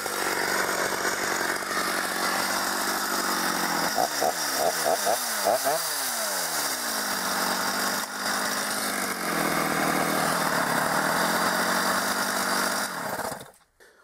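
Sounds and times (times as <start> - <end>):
chainsaw idling: 0.0 - 13.7.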